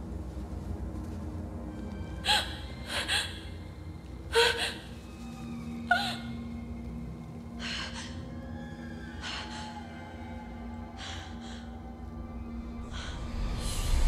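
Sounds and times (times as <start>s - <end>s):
eerie background music: 0.0s - 14.0s.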